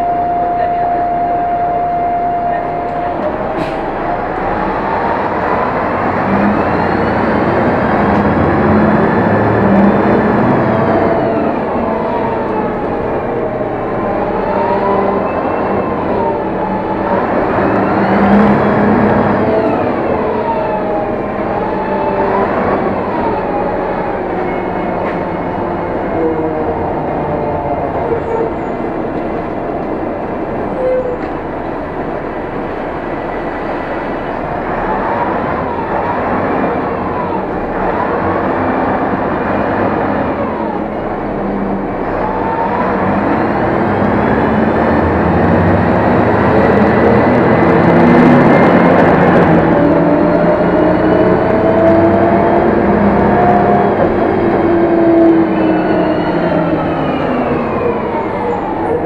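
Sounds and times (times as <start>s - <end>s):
bus engine and drivetrain whine: 0.0s - 59.0s
road rumble: 0.0s - 59.0s.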